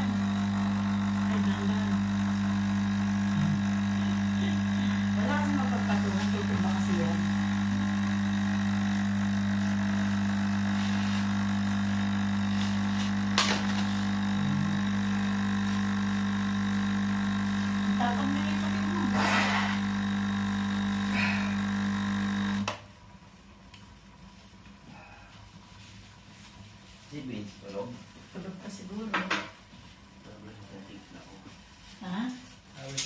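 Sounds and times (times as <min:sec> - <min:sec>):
coffee machine buzzing hum: 0:00.0 - 0:26.9.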